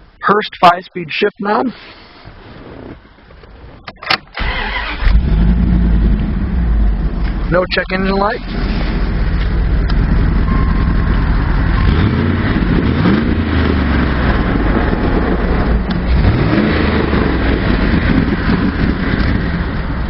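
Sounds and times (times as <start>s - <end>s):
truck engine rumbling and revving: 1.8s - 20.0s.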